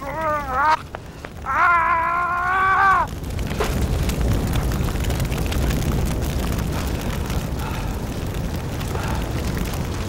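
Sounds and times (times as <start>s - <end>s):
fire rumbling and crackling: 0.0s - 10.0s.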